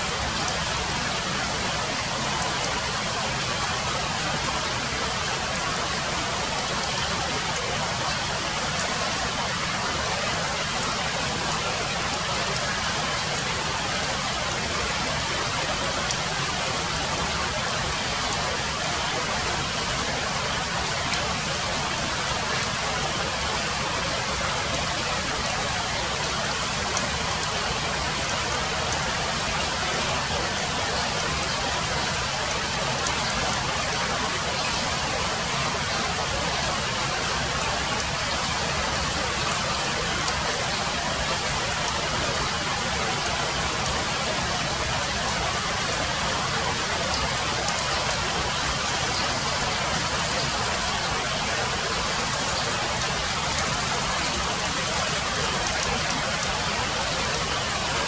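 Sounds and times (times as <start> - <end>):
rain on wet leaves: 0.0 - 58.0.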